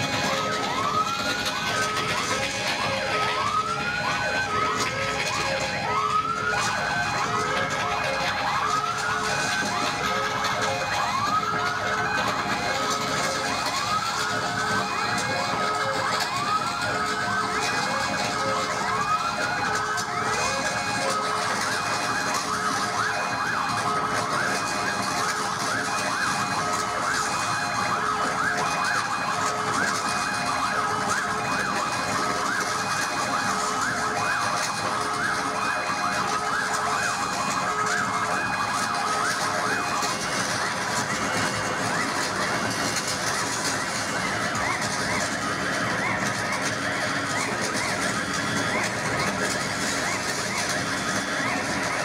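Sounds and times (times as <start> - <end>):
siren-like pitch glides: 0.0 - 52.0.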